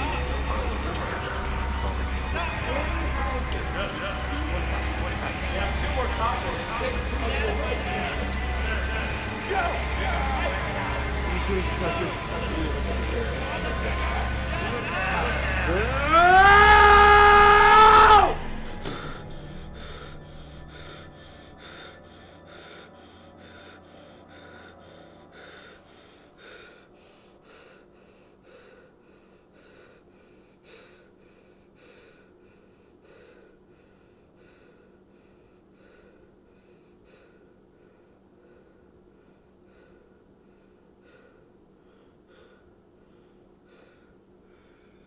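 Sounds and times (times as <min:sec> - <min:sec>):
man breathing heavily: 0:00.0 - 0:45.0.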